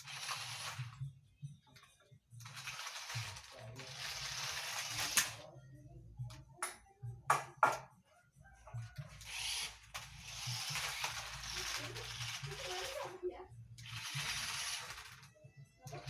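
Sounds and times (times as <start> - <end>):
toy car motor whirring: 0.0 - 5.6, 8.7 - 16.0.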